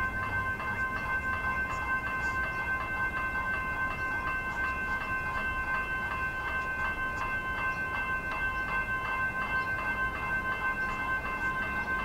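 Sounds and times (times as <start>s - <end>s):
level crossing bells ringing: 0.0s - 12.0s
train rumble: 0.0s - 12.0s.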